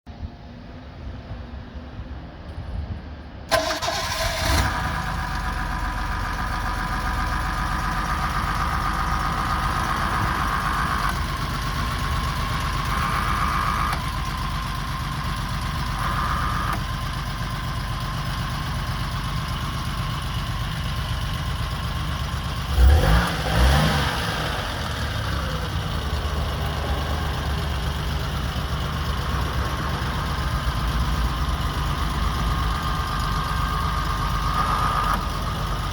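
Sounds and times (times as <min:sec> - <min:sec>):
car engine starting and idling: 0:00.1 - 0:35.9
engine throttle blips: 0:03.5 - 0:35.9.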